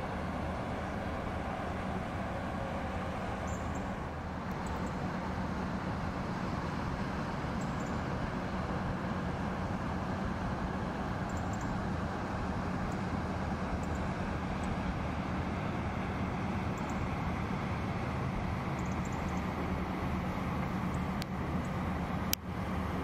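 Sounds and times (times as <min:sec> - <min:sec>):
boat diesel engine drone: 0:00.0 - 0:23.0.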